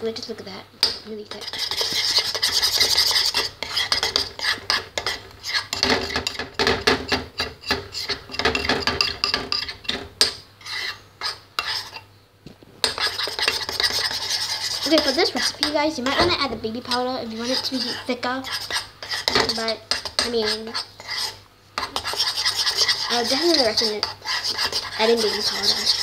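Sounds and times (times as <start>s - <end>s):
metal spoon scraping a bowl: 0.8s - 12.1s, 12.8s - 26.0s.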